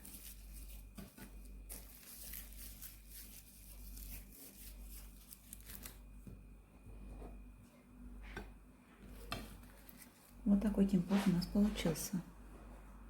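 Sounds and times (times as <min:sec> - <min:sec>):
faint rustling and crinkling: 0:00.0 - 0:06.2, 0:06.8 - 0:12.9.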